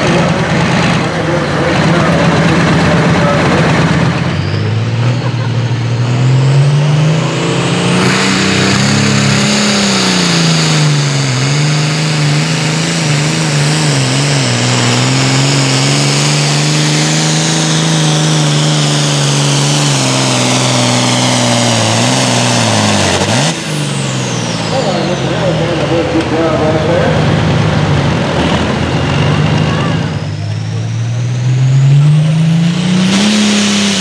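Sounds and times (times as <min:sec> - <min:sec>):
diesel tractor engine at full throttle: 0:00.0 - 0:34.0.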